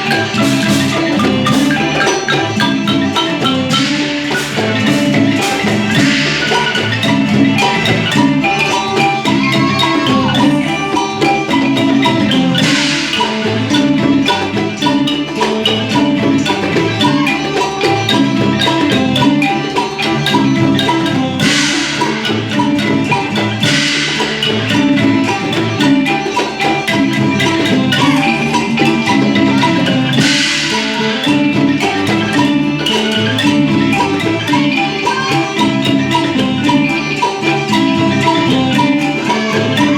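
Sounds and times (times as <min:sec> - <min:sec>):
percussion beat: 0:00.0 - 0:39.9
wooden xylophone playing: 0:00.0 - 0:39.9.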